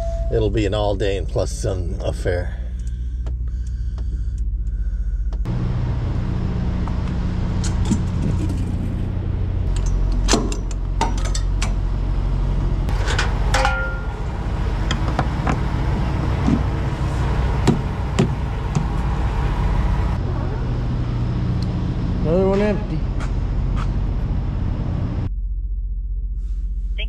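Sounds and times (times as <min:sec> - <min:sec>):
diesel truck engine idling: 0:00.0 - 0:25.3.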